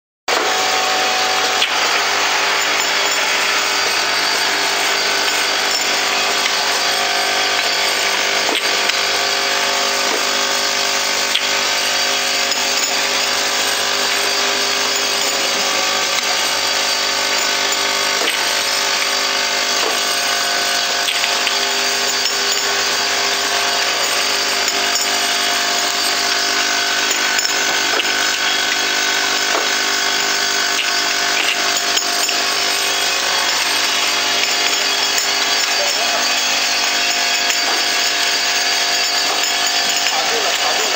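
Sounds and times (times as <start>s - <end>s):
machine motors whining: 0.3s - 40.9s.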